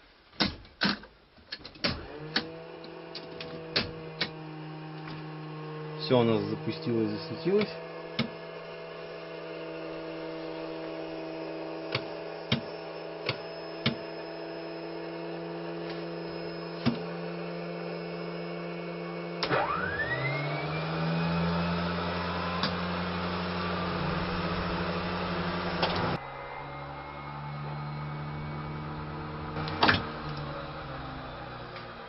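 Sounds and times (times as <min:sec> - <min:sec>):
electrical equipment humming: 0:01.8 - 0:32.0
electric unit spinning up whine: 0:01.9 - 0:32.0.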